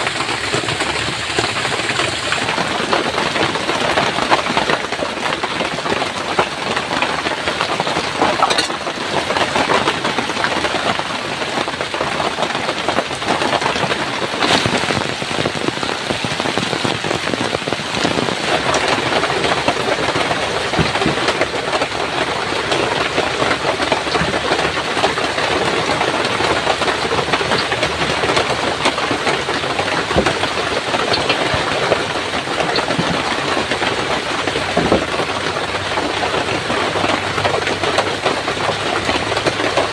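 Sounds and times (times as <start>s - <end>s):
heavy rain falling: 0.0s - 39.9s
sharp raindrop hits: 0.0s - 39.9s.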